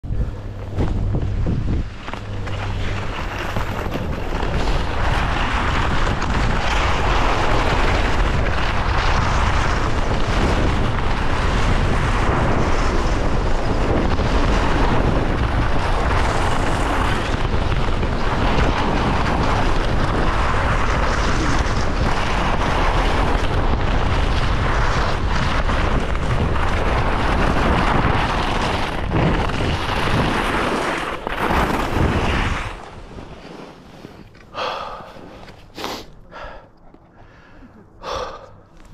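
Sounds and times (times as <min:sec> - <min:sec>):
wind buffeting microphone: 0:00.0 - 0:33.4
skis carving over snow: 0:00.1 - 0:36.6.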